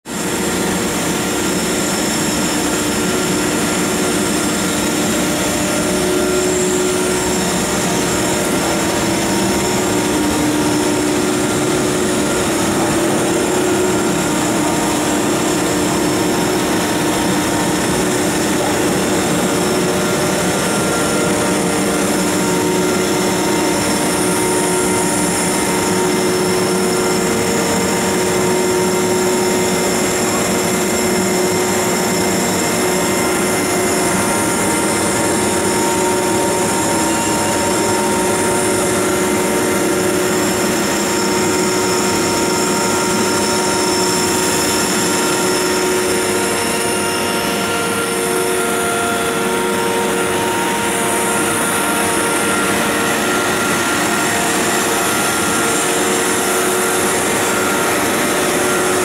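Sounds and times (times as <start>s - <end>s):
loud machinery drone: 0.1s - 59.0s
steady hum tones: 0.2s - 59.0s.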